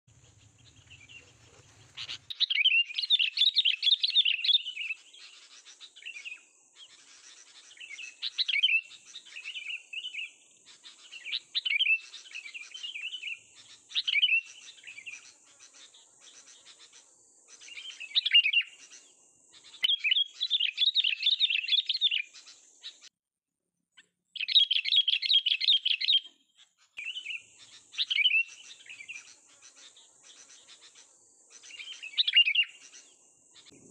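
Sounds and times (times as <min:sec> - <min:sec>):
songbird singing in chattering bursts: 0:00.1 - 0:23.1, 0:24.4 - 0:33.9.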